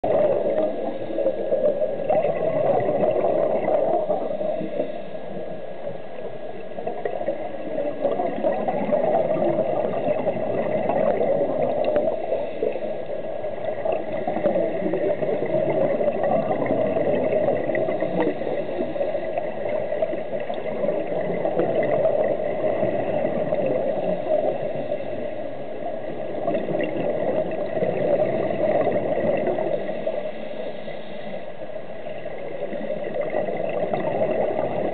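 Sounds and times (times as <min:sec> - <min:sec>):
underwater regulator bubbling: 0:00.0 - 0:05.6, 0:06.5 - 0:25.3, 0:26.0 - 0:30.6, 0:32.1 - 0:34.9.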